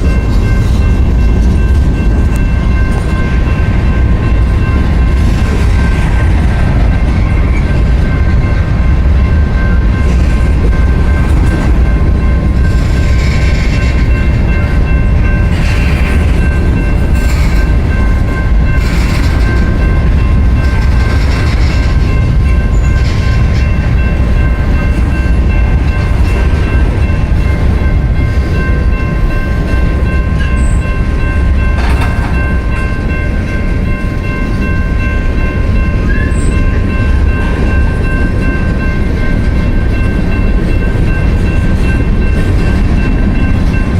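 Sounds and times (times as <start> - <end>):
freight train rumbling past: 0.0 - 43.9
train cars clattering: 0.0 - 43.9.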